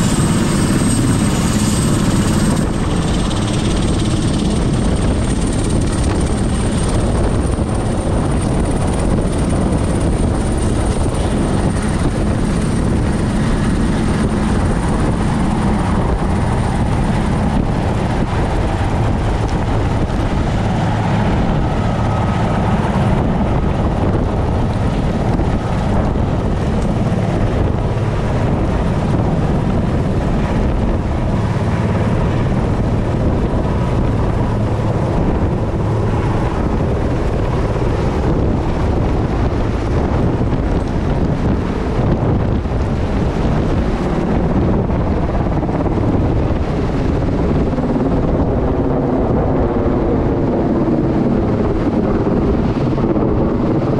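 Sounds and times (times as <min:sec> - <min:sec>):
helicopter rotor and engine roar: 0:00.0 - 0:53.9
high turbine whine: 0:00.0 - 0:53.9.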